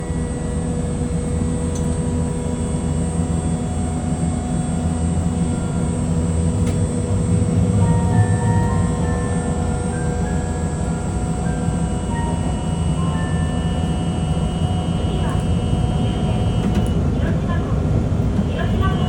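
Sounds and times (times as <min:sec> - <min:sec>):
streetcar rumbling: 0:00.0 - 0:19.0.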